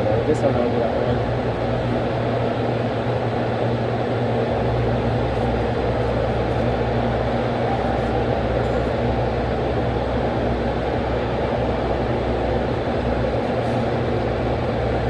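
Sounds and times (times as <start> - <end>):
constant rush of noise: 0.0 - 15.0
low mechanical hum: 0.0 - 15.0.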